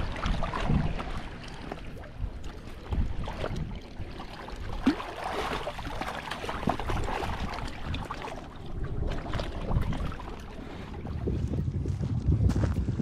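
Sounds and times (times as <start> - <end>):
fish thrashing and splashing water: 0.0 - 11.2.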